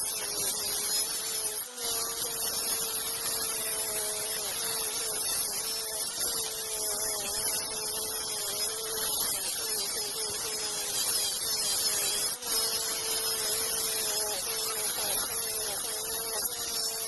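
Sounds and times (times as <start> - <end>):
electric saw cutting wood: 0.0 - 17.0.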